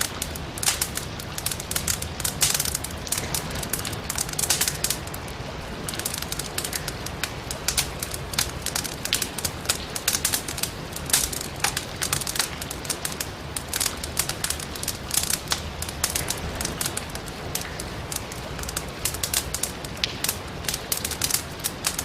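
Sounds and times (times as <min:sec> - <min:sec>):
firewood crackling and popping: 0:00.0 - 0:22.0
low rumble of flames: 0:00.0 - 0:22.0.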